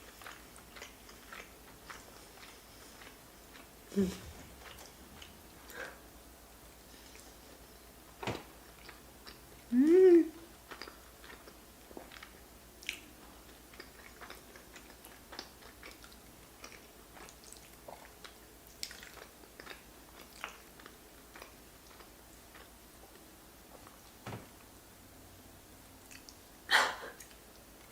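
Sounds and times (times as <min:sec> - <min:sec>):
wet chewing smacks: 0:00.0 - 0:05.9, 0:08.4 - 0:09.7, 0:10.5 - 0:24.2, 0:26.0 - 0:27.9.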